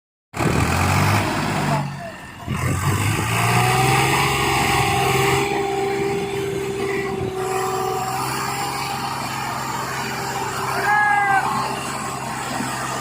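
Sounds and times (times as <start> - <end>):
tractor diesel engine running: 0.3 - 13.0
high whine: 2.0 - 13.0.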